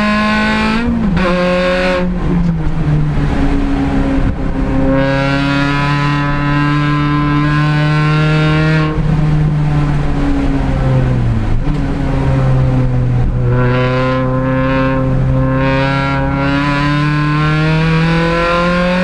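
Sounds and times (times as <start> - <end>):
race car engine: 0.0 - 19.0.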